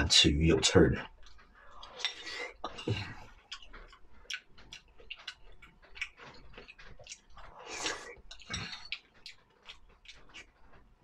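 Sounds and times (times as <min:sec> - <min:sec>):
chewing with wet mouth clicks: 0:01.1 - 0:10.8.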